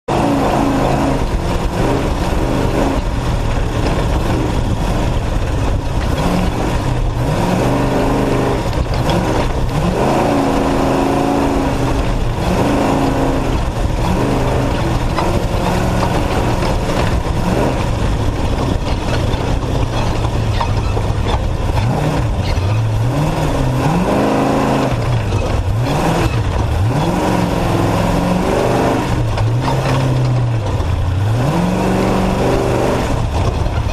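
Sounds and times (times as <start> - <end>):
race truck engine revving: 0.0 - 33.9.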